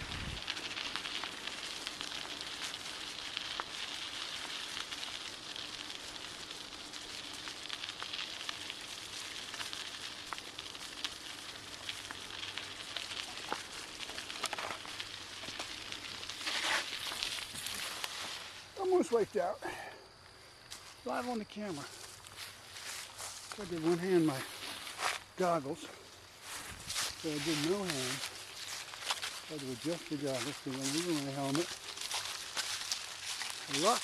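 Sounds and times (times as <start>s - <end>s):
bicycle tyres rolling on bumpy trail: 0.0s - 34.0s.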